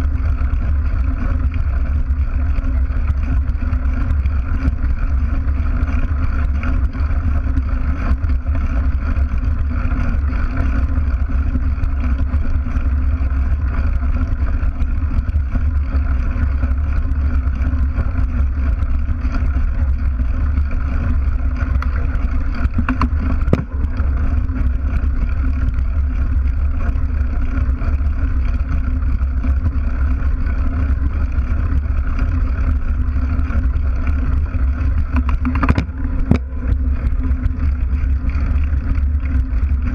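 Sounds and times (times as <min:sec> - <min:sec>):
bike tyre rolling on gravel: 0:00.0 - 0:39.9.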